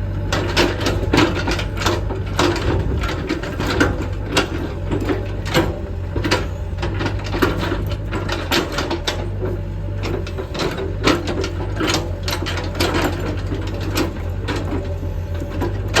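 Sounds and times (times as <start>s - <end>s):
excavator diesel engine running: 0.0s - 16.0s
machine clanks and knocks: 0.3s - 16.0s.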